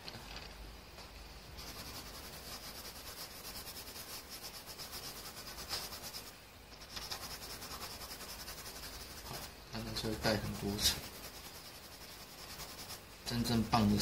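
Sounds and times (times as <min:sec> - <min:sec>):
colored pencil scratching on paper: 0:01.6 - 0:14.0.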